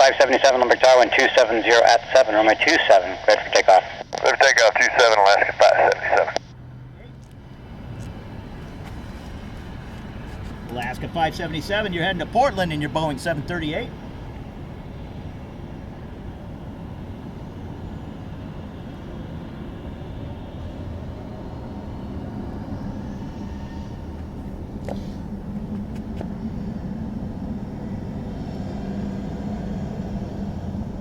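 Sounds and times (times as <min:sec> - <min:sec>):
jet engines at takeoff power: 0:00.0 - 0:31.0.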